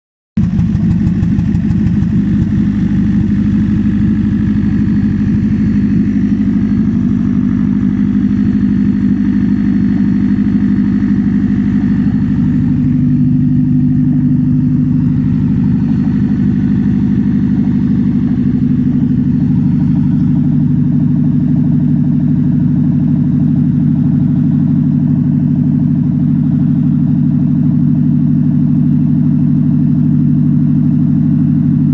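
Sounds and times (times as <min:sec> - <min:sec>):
car engine drone: 0:00.4 - 0:31.9.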